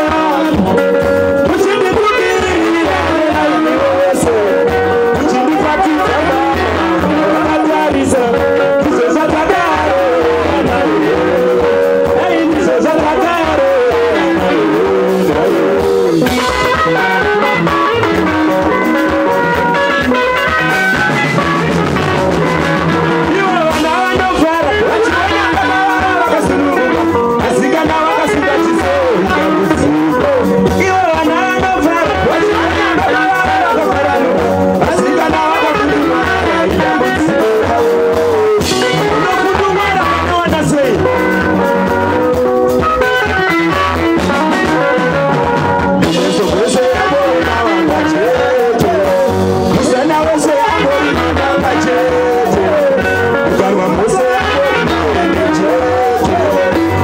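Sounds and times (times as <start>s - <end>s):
bass guitar: 0.0s - 57.0s
electric guitar: 0.0s - 57.0s
people singing into microphones: 0.0s - 57.0s.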